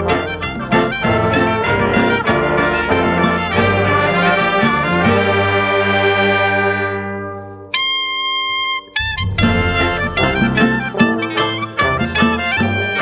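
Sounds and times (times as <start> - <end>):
brass band playing: 0.0 - 7.7, 8.8 - 13.0.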